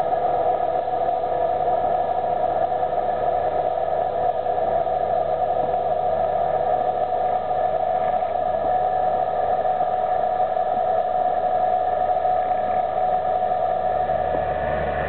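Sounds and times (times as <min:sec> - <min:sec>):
constant high whine: 0:00.0 - 0:15.0.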